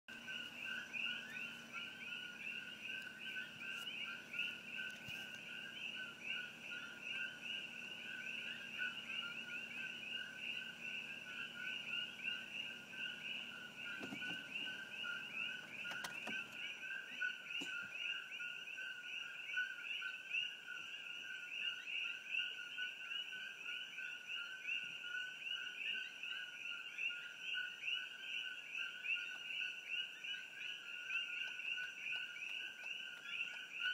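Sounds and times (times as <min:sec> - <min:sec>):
frogs calling in chorus: 0:00.1 - 0:33.9.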